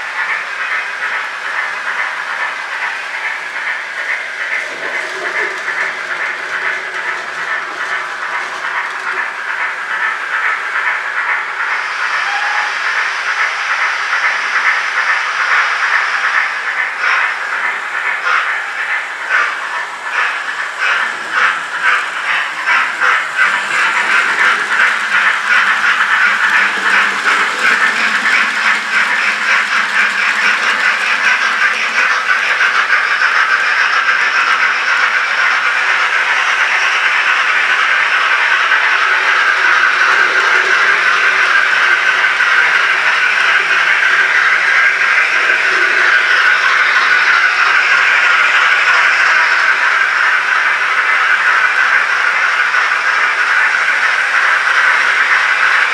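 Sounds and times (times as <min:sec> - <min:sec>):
model steam locomotive chuffs: 0:00.0 - 0:55.9.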